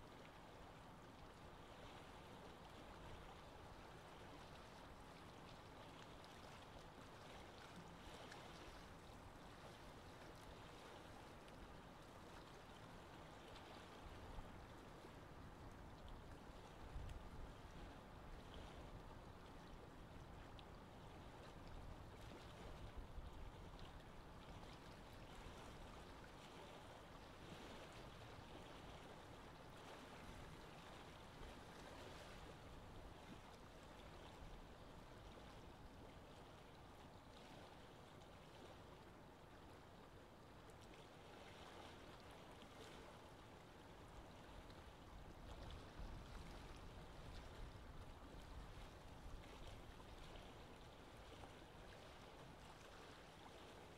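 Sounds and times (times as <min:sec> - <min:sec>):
faint choppy water: 0:00.0 - 0:53.9.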